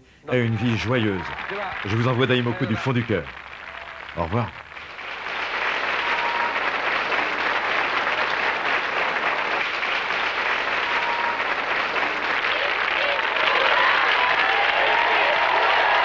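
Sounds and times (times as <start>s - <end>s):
large crowd applauding: 0.3s - 16.0s.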